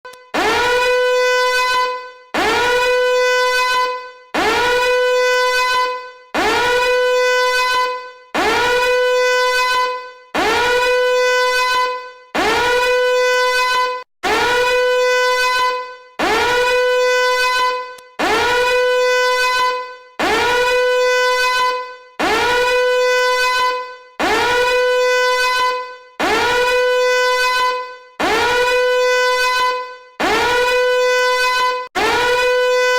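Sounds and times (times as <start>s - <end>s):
harsh horn-like tone: 0.1s - 32.9s.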